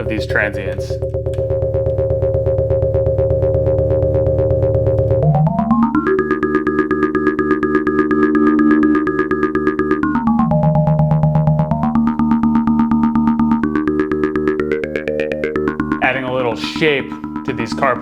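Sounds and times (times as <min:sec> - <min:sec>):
synthesizer pulsing ringing chord: 0:00.0 - 0:18.0.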